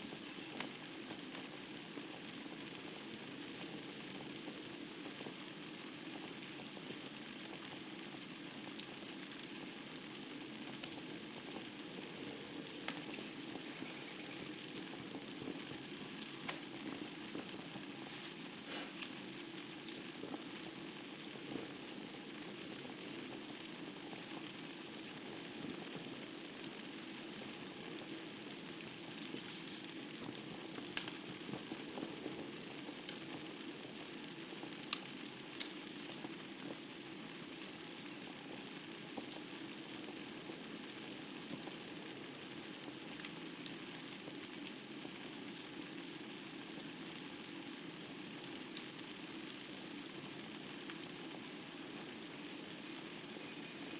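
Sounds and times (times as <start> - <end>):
fire flames hissing: 0.0 - 53.9
logs crackling and popping: 0.0 - 53.9.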